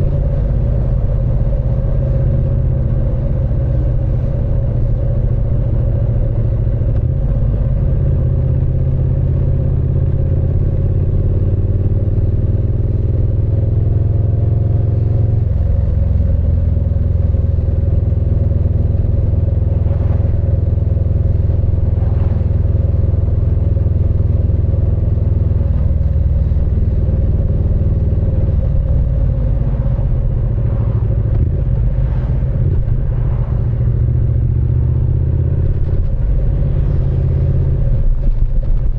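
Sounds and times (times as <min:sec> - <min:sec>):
motorcycle engine and exhaust running: 0:00.0 - 0:38.9.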